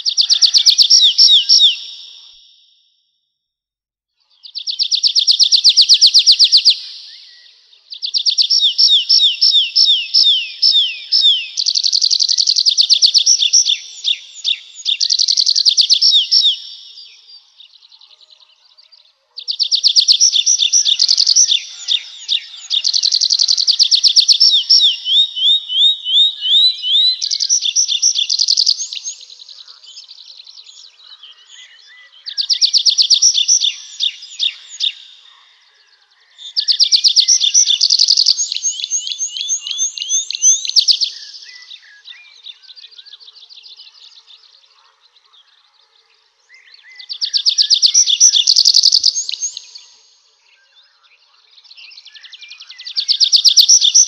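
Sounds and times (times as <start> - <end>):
songbird singing: 0.0 - 2.9, 4.2 - 54.0.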